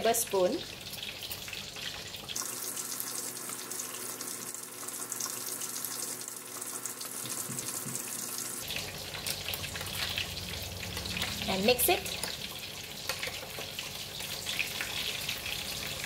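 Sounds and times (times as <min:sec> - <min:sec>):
fish deep-frying in oil: 0:00.0 - 0:16.0.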